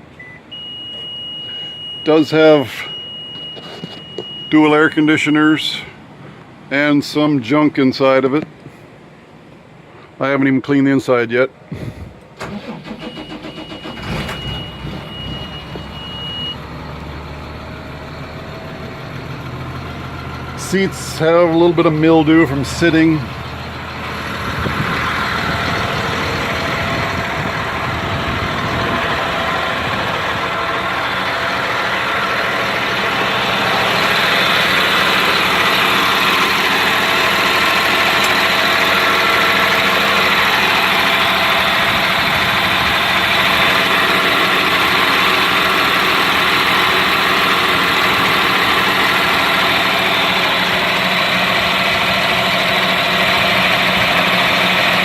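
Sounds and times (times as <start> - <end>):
diesel bus engine idling: 0.0 - 7.2, 11.6 - 55.0.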